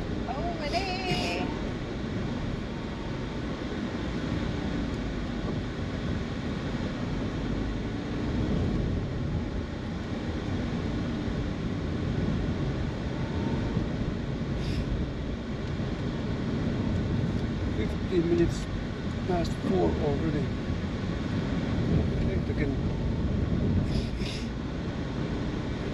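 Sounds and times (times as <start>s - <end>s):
car engine and tyre noise: 0.0s - 25.9s.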